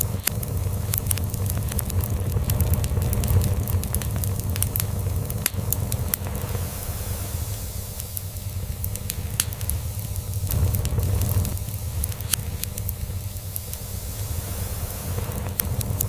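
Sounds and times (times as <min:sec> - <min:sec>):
log fire crackling and popping: 0:00.0 - 0:16.0.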